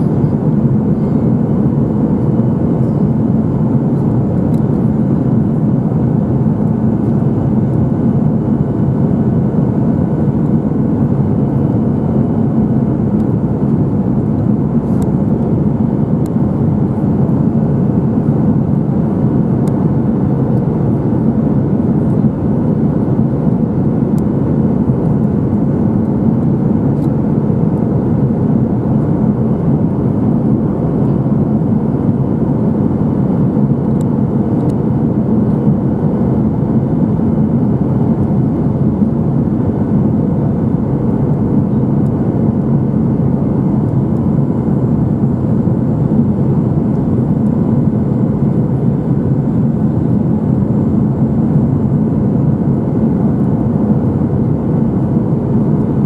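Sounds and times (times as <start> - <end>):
airplane cabin engine noise: 0.0 - 56.0
faint hum: 0.0 - 56.0.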